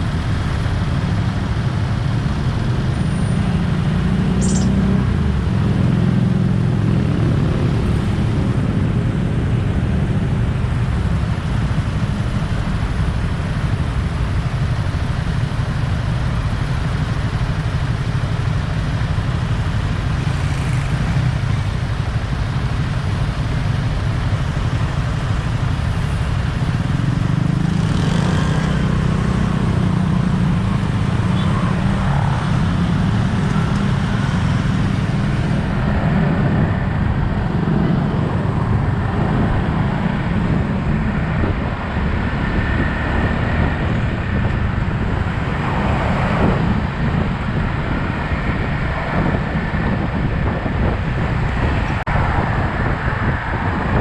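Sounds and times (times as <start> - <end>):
motorcycle engine running: 0.0 - 45.5
road traffic noise: 0.0 - 54.0
wind rumble on microphone: 4.8 - 14.3, 19.8 - 54.0.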